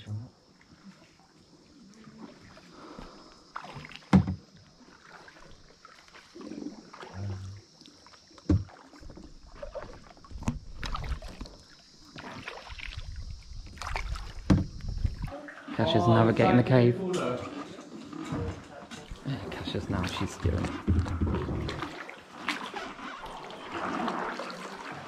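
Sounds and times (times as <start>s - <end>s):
paddle strokes splashing water: 0.5s - 16.4s, 17.0s - 25.0s.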